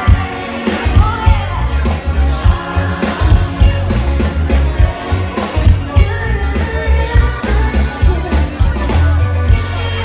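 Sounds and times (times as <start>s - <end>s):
live pop band with vocals: 0.0s - 10.0s.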